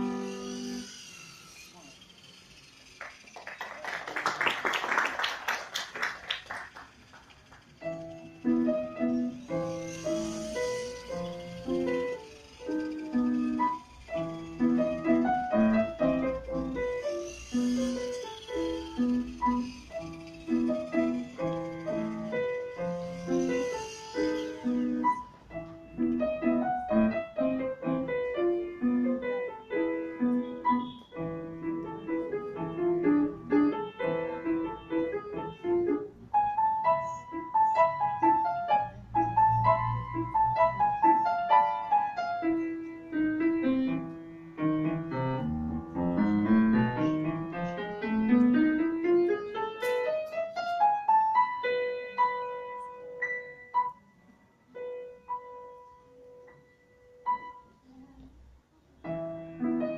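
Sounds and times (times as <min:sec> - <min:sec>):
solo grand piano: 0:06.0 - 0:59.9.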